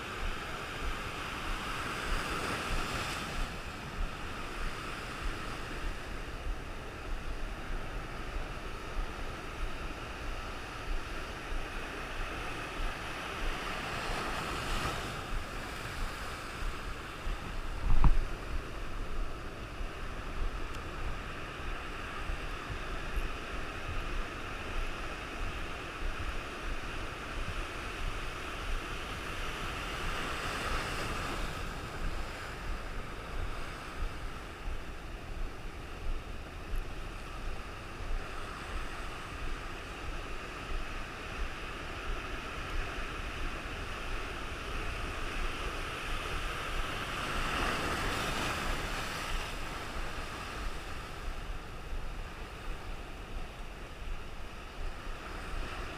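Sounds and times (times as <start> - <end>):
ocean waves breaking: 0.0 - 55.9
wind rumbling on microphone: 0.0 - 55.9.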